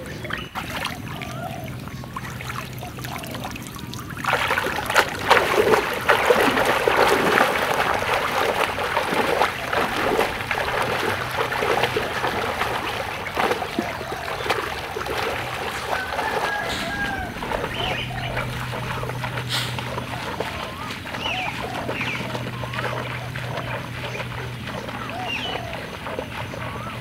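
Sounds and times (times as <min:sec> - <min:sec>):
people wading through water: 0:00.0 - 0:27.0.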